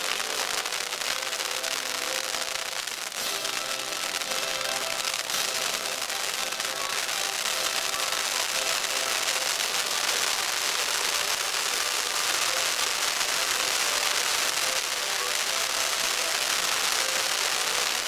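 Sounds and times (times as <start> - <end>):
firework fountains hissing: 0.0 - 18.0.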